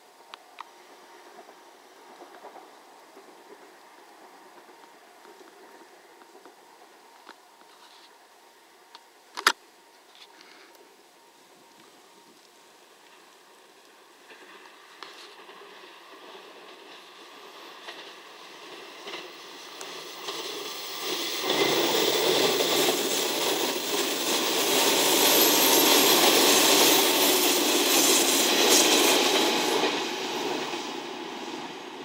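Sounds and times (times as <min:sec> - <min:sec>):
diesel train engines: 0:00.0 - 0:32.0
train wheels on rails: 0:00.2 - 0:08.2, 0:11.5 - 0:32.0.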